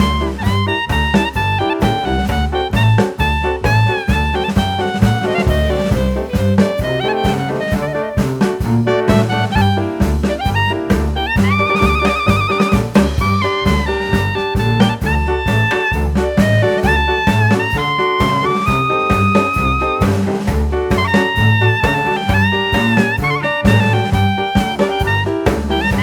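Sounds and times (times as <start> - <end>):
bass and drum beat: 0.0 - 26.0
live band playing: 0.0 - 26.0
shrill lead melody: 0.0 - 26.0.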